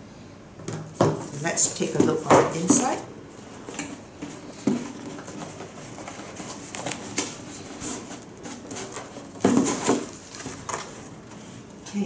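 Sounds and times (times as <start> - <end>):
cardboard rubbing and rustling: 1.0 - 11.7.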